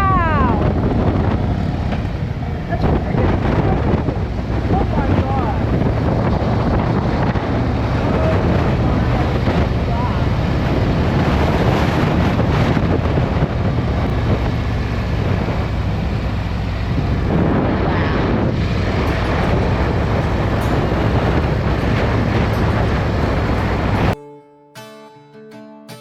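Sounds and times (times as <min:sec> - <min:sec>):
motorcycle running: 0:00.0 - 0:24.2
wind on microphone: 0:00.0 - 0:24.2
held music notes: 0:00.0 - 0:26.0.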